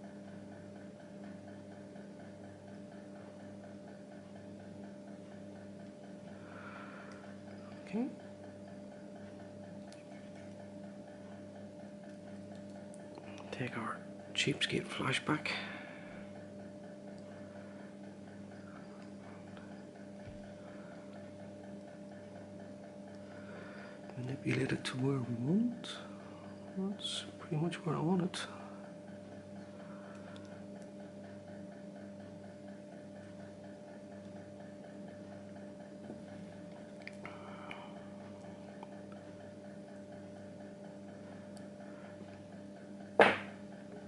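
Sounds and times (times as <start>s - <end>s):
pulsing electrical hum: 0.0s - 44.0s.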